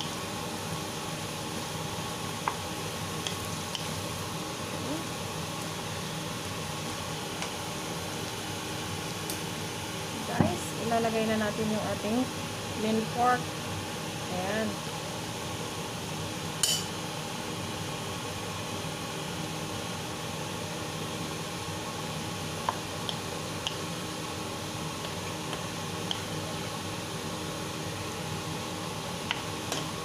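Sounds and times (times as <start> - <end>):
food sizzling in frying pan: 0.0 - 30.0.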